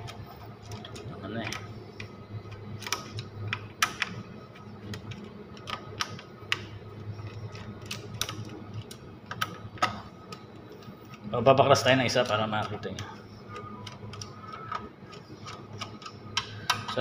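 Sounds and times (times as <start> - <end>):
plastic circuit breakers clicking: 0.0 - 6.7, 7.3 - 11.2, 12.1 - 17.0
steady low hum: 0.0 - 17.0.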